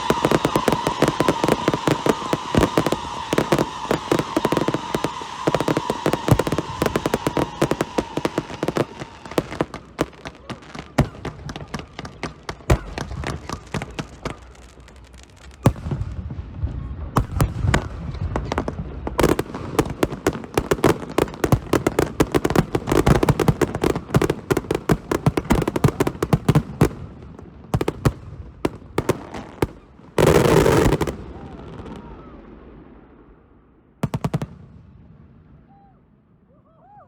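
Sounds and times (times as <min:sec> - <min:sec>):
loud firework burst: 0:00.0 - 0:33.3
fireworks bangs and crackling: 0:00.0 - 0:35.7.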